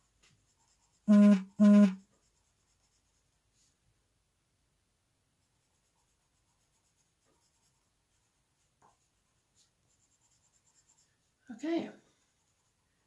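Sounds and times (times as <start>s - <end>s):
pencil scratching on cardstock: 0.0s - 3.8s, 5.4s - 11.4s, 12.2s - 12.9s.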